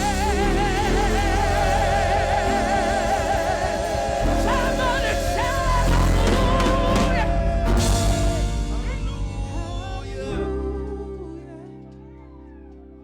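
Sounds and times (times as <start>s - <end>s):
singing with vibrato: 0.0s - 12.4s
gospel music with band: 0.0s - 13.0s.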